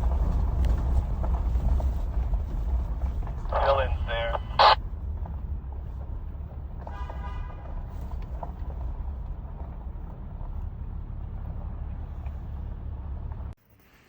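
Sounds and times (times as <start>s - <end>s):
truck engine rumble: 0.0s - 13.6s.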